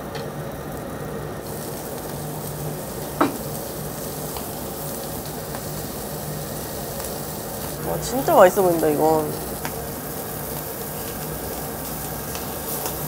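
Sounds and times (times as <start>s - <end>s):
meat sizzling on grill plate: 0.6s - 13.0s.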